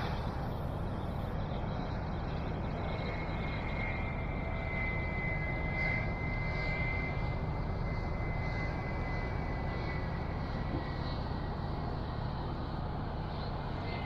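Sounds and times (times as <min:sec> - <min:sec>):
distant engine drone: 0:00.0 - 0:14.0
thin high whine: 0:00.0 - 0:14.0.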